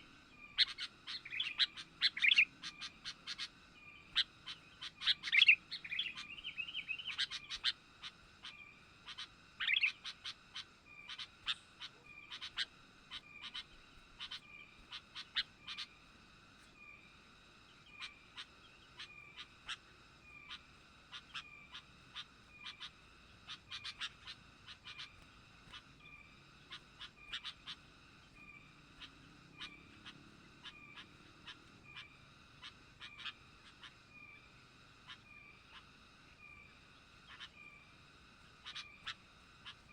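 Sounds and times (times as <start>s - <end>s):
bulbul calling: 0.0s - 16.0s, 17.7s - 39.9s.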